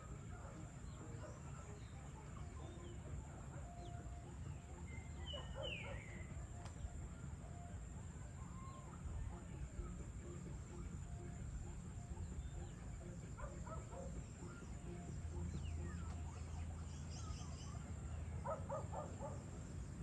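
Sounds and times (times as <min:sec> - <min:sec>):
bird calls: 0:00.0 - 0:10.0, 0:10.8 - 0:20.0.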